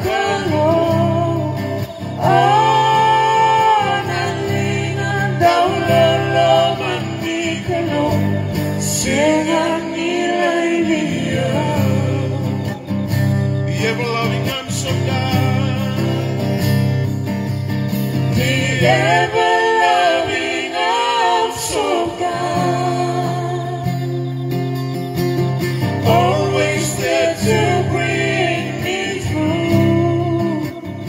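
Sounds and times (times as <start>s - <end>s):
people singing gospel song: 0.0s - 17.1s, 18.1s - 24.4s, 25.6s - 31.0s
acoustic guitar strumming: 0.0s - 31.0s.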